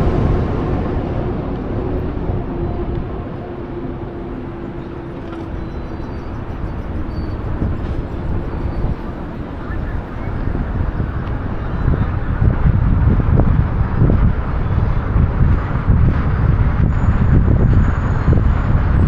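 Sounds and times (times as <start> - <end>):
car wind and road noise: 0.0 - 19.0.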